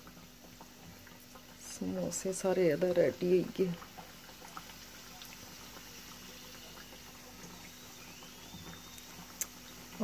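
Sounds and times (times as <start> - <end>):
oil bubbling and sizzling: 0.0 - 10.0.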